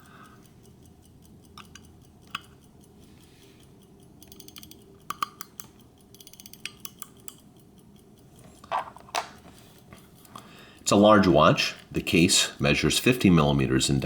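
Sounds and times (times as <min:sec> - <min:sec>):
winding key ratchet clicking: 0:00.0 - 0:14.0.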